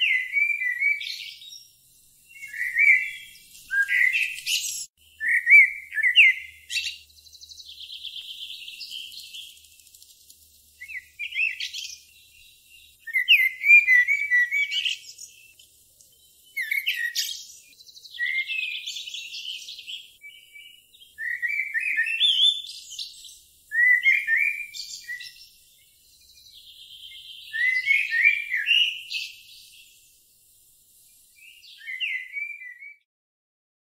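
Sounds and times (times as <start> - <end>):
songbird chirps and trills: 0.0 - 33.0.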